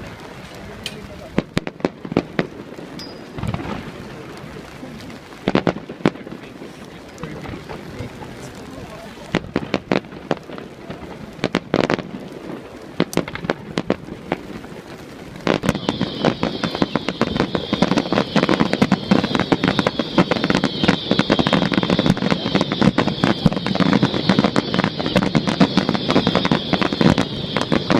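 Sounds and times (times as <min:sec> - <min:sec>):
firework bangs: 0:00.0 - 0:27.9
fireworks crackling barrage: 0:00.0 - 0:27.9.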